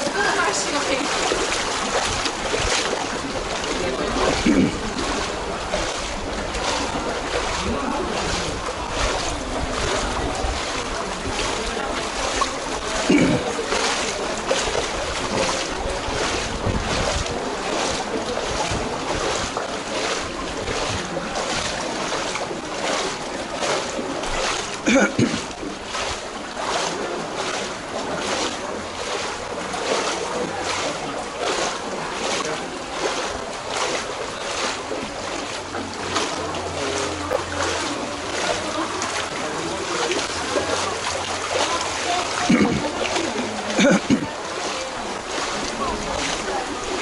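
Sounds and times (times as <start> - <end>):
feet wading through water: 0.0 - 47.0.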